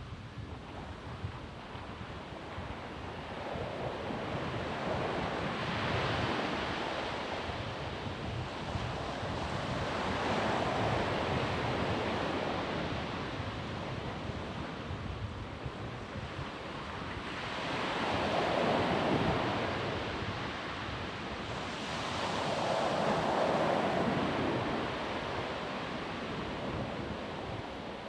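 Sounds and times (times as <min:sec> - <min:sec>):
ocean waves on sandy beach: 0:00.2 - 0:28.0.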